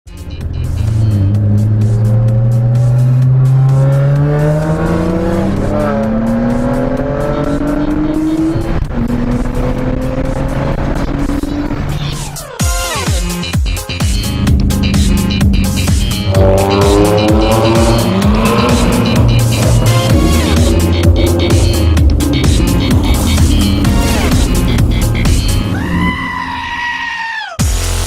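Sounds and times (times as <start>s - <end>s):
car engine accelerating hard: 0.4s - 12.0s, 14.2s - 26.1s.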